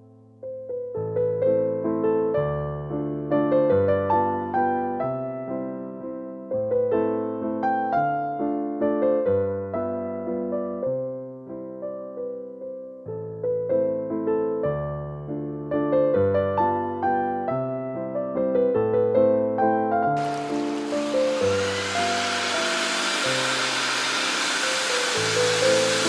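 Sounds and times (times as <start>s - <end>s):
gentle electric piano music: 0.0s - 23.7s.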